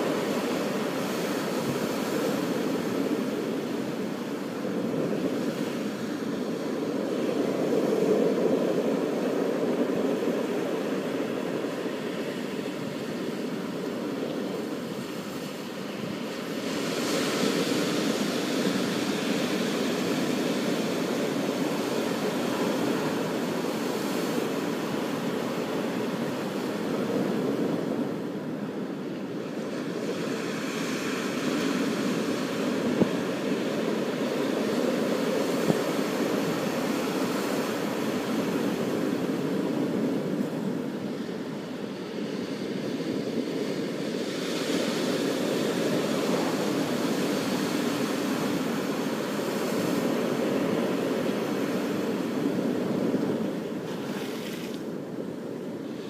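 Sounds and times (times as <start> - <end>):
ocean surf washing onto beach: 0.0 - 56.0.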